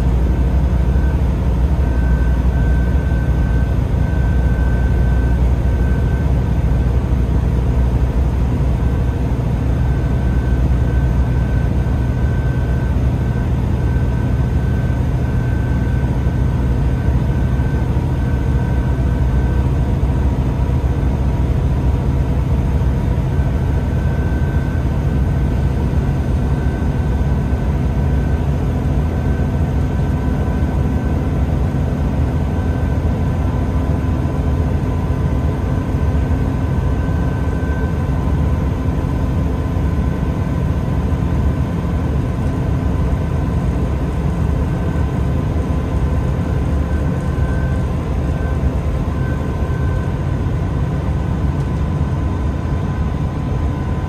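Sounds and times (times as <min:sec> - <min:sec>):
steady whine: 0:00.0 - 0:54.0
train engine and wheels rumbling: 0:00.0 - 0:54.0.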